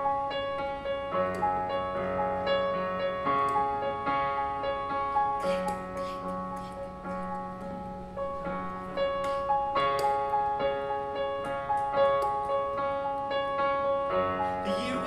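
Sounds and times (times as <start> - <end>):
digital piano playing chords: 0.0 - 15.0.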